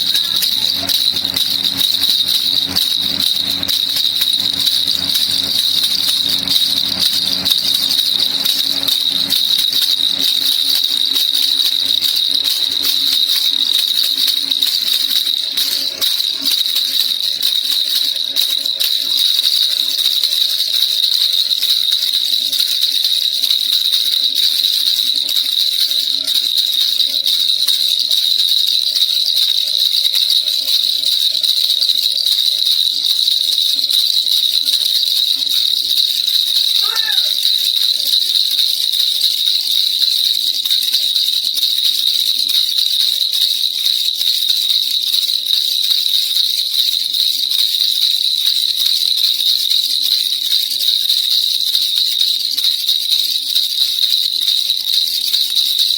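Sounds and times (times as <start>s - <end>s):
baby rattle jingling: 0.0s - 55.9s.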